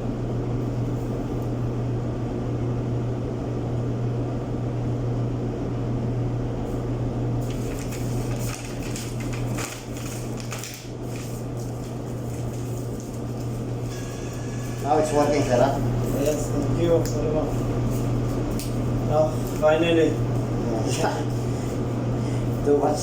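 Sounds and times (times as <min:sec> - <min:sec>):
clothes dryer humming: 0:00.0 - 0:23.0.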